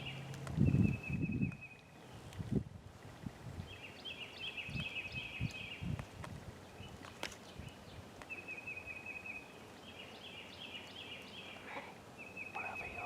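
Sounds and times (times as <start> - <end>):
songbird singing rapid trill: 0.0 - 2.2, 3.6 - 6.0, 6.6 - 13.0
faint woodland background: 0.0 - 13.0.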